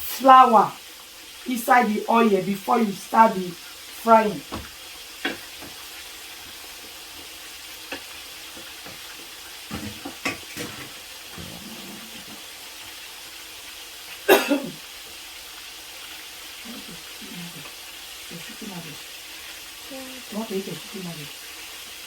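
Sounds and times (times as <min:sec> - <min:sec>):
oil sizzling in a frying pan: 0:00.0 - 0:22.0.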